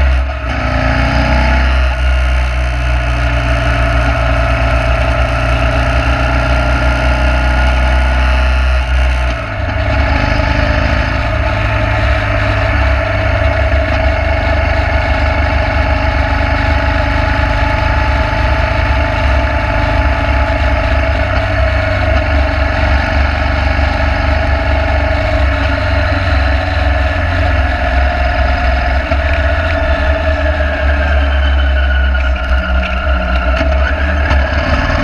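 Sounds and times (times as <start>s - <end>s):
motorcycle engine cruising: 0.0s - 35.0s.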